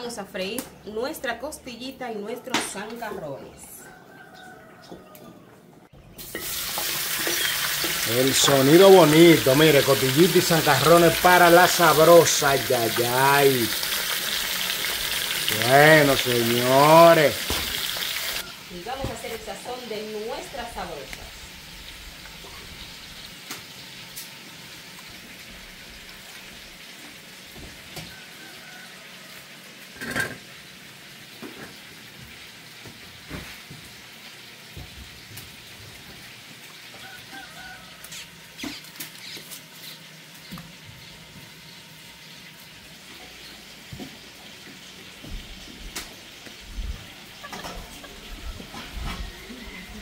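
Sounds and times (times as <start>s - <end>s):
meat sizzling in hot fat: 6.2s - 50.0s.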